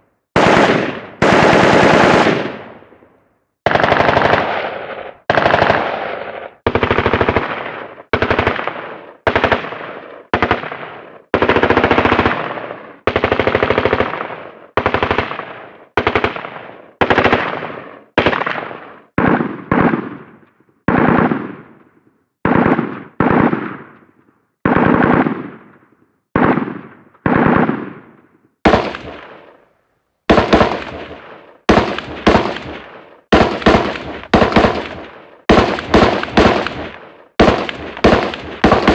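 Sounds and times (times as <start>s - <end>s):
machine-gun fire bursts: 0.4s - 2.9s, 3.6s - 21.8s, 22.4s - 24.0s, 24.6s - 29.6s, 30.3s - 38.9s.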